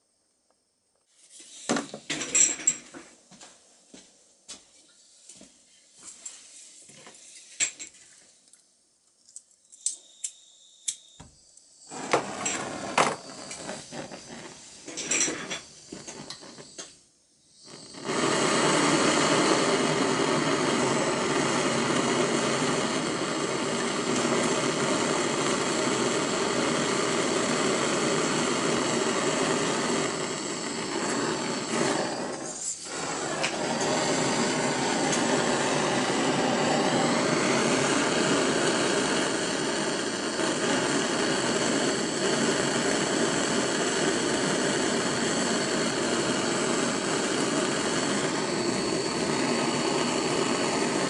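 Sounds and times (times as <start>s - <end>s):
gas torch flame hissing: 1.2s - 3.0s, 9.8s - 51.0s.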